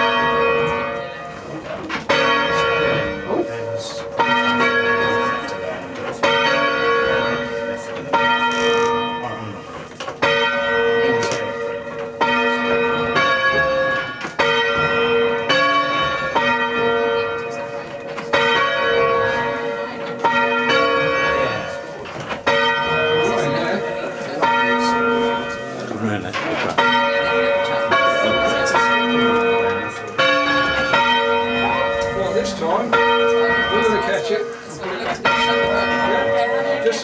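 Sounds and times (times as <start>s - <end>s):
church bell ringing: 0.0s - 37.0s.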